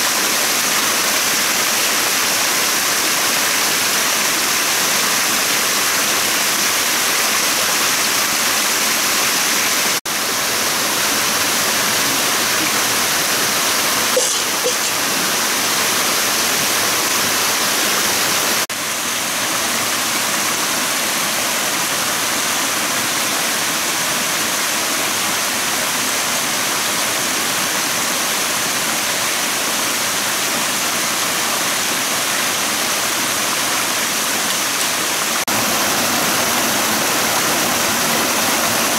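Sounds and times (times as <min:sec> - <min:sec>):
stream pouring over cascades: 0:00.0 - 0:38.9.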